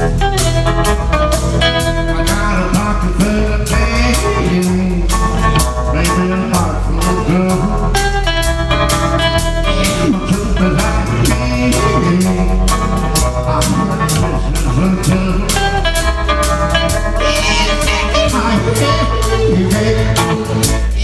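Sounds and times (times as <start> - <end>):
steady drum beat: 0.0 - 21.0
twangy electric guitar: 0.0 - 21.0
upright bass: 0.0 - 21.0
person singing: 1.8 - 8.3, 9.6 - 21.0.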